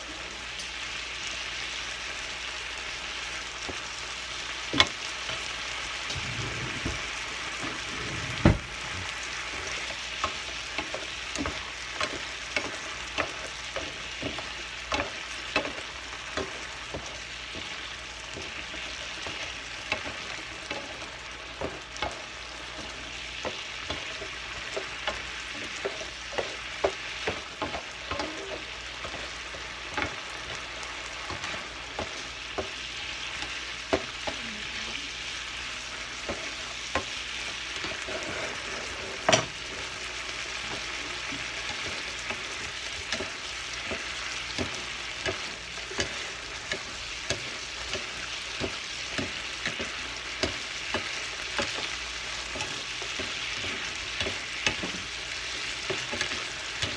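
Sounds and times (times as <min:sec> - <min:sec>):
shrimp sizzling in a frying pan: 0:00.0 - 0:56.9
spatula knocking and scraping pan: 0:04.7 - 0:34.4, 0:36.0 - 0:56.9.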